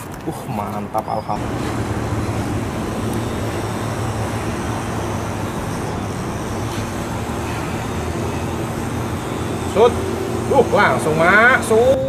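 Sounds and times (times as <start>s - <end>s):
low mechanical hum and rumble: 0.0s - 12.0s.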